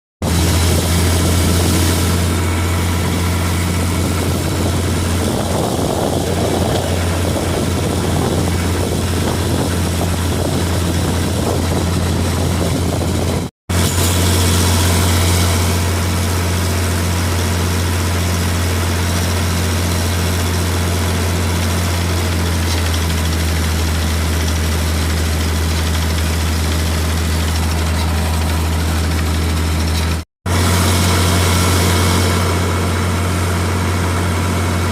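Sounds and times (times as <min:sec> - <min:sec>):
air compressor diesel engine droning: 0:00.2 - 0:34.9.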